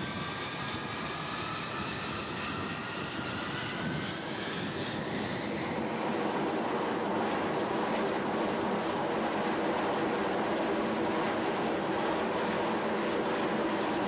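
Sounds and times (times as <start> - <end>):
jet engine whine: 0.0 - 14.0.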